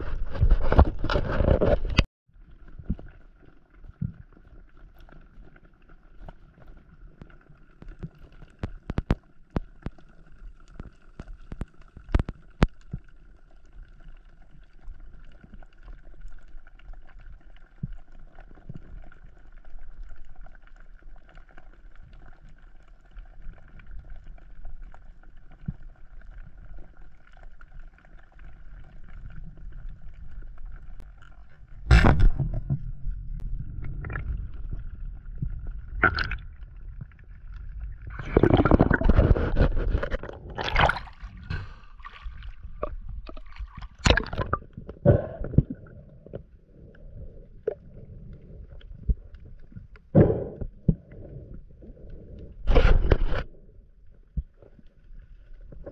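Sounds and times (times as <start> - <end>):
low underwater rumble: 0.0 - 55.9.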